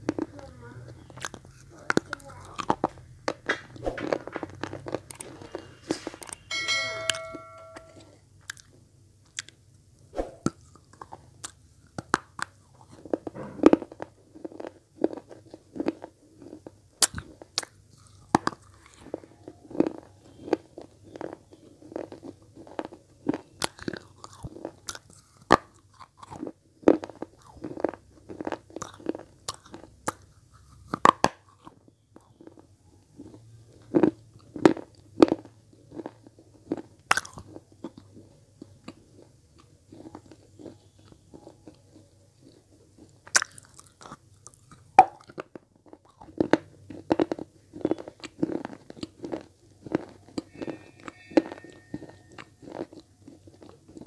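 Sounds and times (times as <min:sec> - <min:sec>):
grinding chews: 0:00.0 - 0:06.3, 0:10.4 - 0:54.0.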